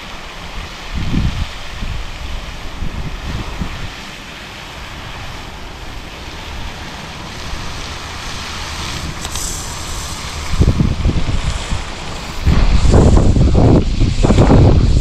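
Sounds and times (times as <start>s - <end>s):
steady hiss: 0.0s - 15.0s
wind buffeting microphone: 0.0s - 15.0s.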